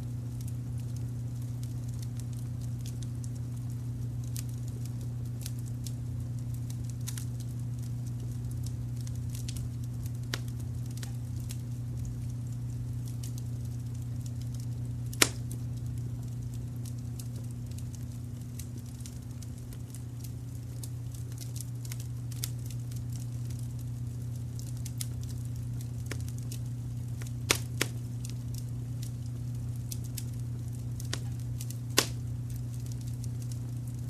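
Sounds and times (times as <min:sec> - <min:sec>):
low brown-noise rumble: 0:00.0 - 0:34.0
wood fire crackling: 0:00.0 - 0:34.0
loud fire pops: 0:00.3 - 0:34.0.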